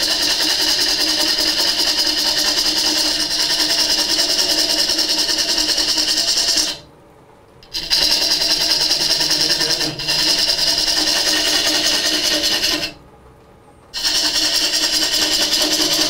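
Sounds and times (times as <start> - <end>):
wood lathe tool cutting: 0.0 - 6.9, 7.6 - 13.0, 14.0 - 16.0.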